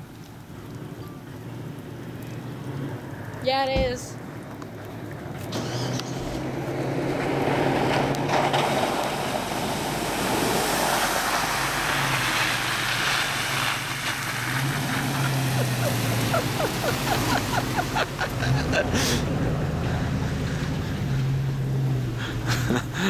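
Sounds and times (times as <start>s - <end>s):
tyres splashing through mud: 0.0s - 23.0s.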